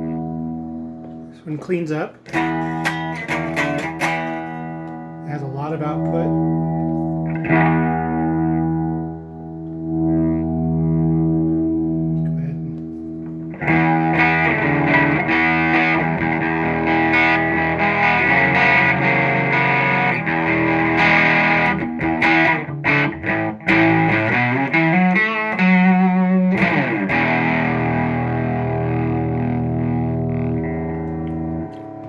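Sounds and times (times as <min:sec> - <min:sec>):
fuzz electric guitar chords: 0:00.0 - 0:01.4, 0:02.2 - 0:32.0.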